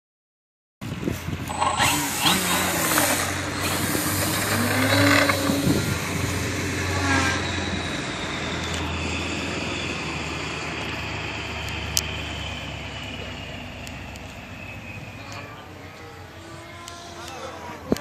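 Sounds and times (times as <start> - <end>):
model plane engine droning: 1.3 - 18.0.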